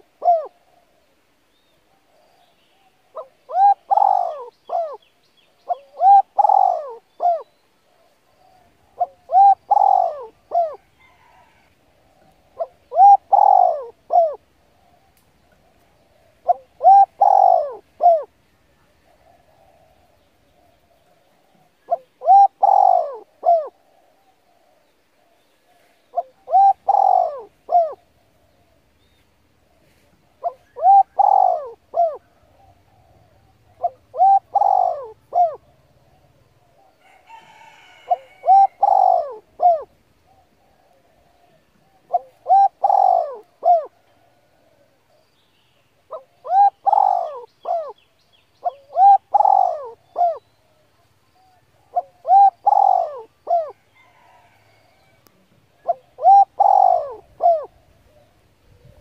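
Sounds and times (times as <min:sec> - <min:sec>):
bird cooing: 0:00.0 - 0:59.0.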